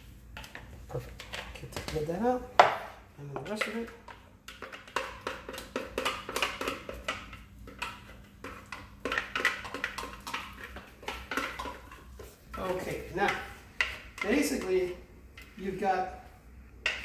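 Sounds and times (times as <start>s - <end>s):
spatula scraping and tapping bowl: 0.4s - 2.0s, 2.6s - 17.0s.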